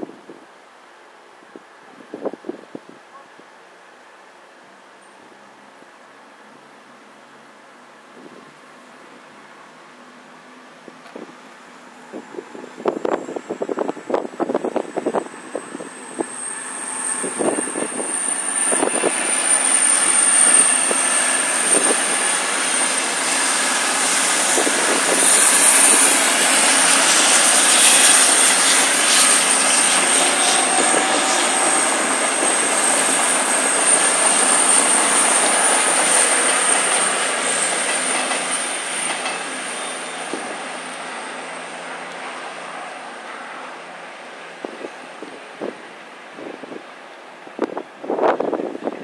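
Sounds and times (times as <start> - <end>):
express train passing: 4.2 - 49.0.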